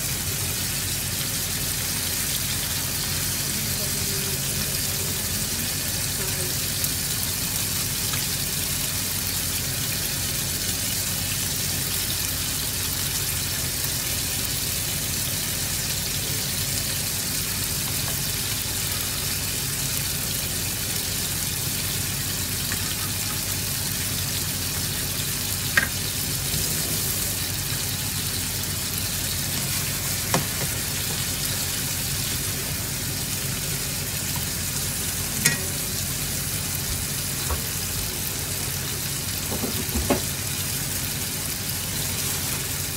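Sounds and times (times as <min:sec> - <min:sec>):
food sizzling in hot oil: 0:00.0 - 0:42.9.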